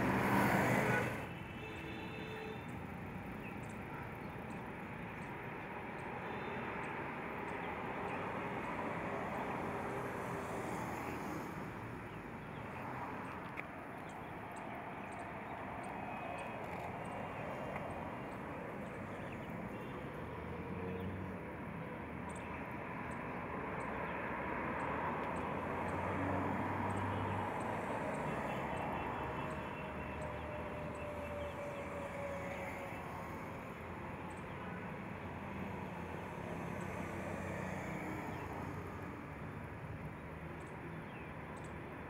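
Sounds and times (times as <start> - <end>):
distant road traffic rumble: 0.0 - 42.0.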